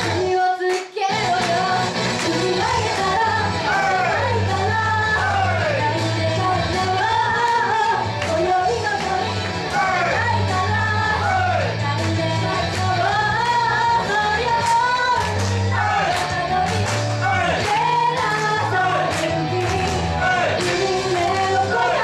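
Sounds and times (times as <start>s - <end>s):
women singing into microphones: 0.0s - 15.4s, 16.0s - 16.8s, 17.5s - 22.0s
pop backing track with bass: 0.0s - 22.0s.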